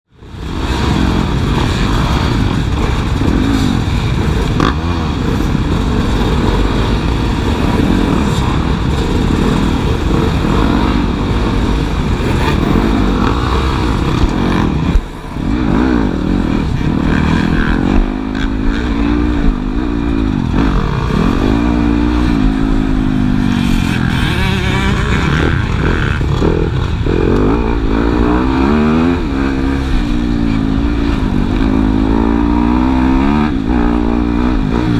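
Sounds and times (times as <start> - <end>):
motocross bike engines revving: 0.1 - 34.9.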